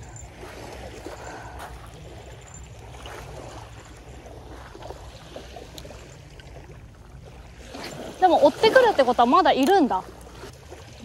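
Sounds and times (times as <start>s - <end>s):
small waves washing on shore: 0.0s - 11.0s.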